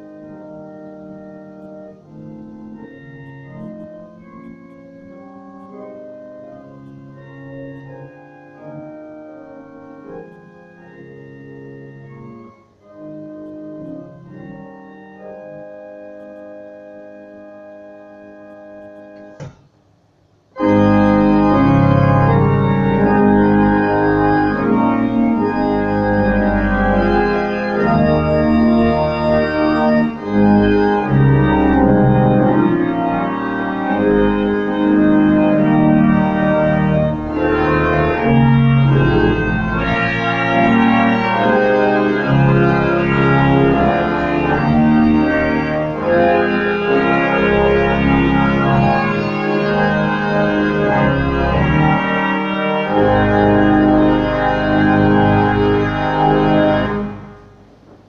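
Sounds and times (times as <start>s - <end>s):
church organ playing hymn chords: 0.0s - 58.0s.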